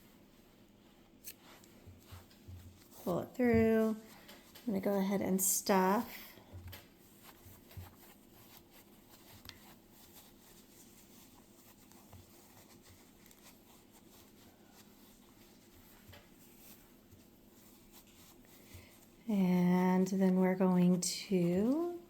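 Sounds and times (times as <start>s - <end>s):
faint rustles and taps: 0.0s - 22.0s.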